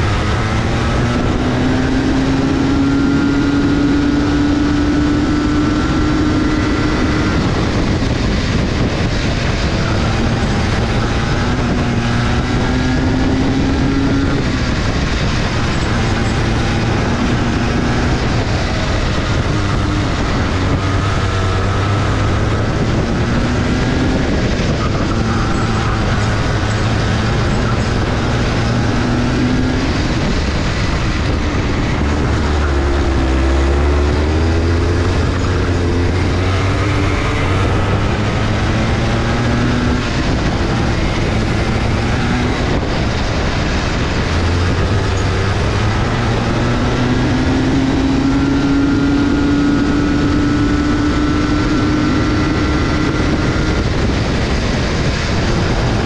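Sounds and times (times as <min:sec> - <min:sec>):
go-kart engine racing: 0:00.0 - 0:56.0
loud rushing noise: 0:00.0 - 0:56.0.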